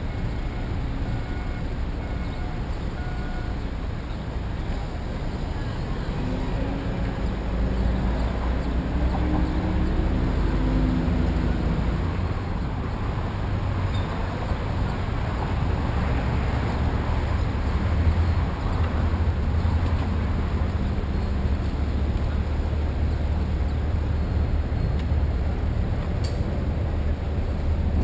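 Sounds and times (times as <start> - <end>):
traffic rumble: 0.0 - 28.0
vehicle engine hum: 0.0 - 28.0.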